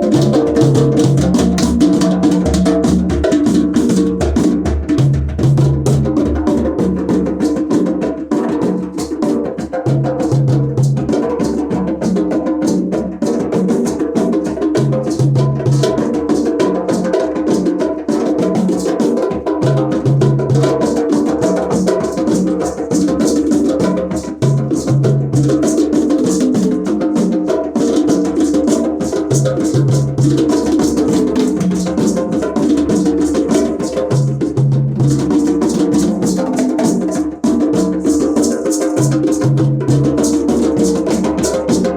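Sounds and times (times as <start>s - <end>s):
drums: 0.0s - 41.9s.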